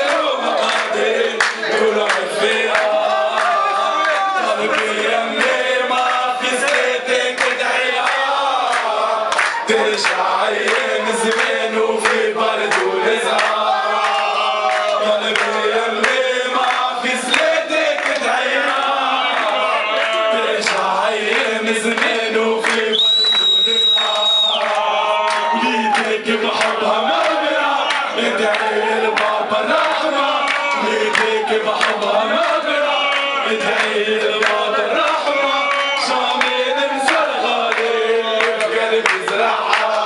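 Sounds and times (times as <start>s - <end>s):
hand-clapping: 0.0s - 40.0s
men chanting and singing: 0.0s - 40.0s.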